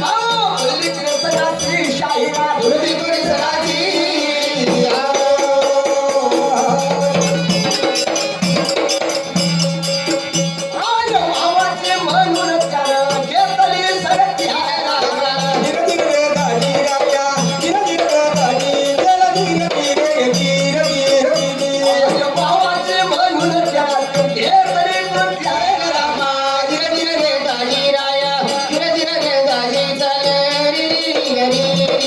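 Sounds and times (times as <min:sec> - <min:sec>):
rattling jingles: 0:00.0 - 0:32.0
steady percussion beat: 0:00.0 - 0:32.0.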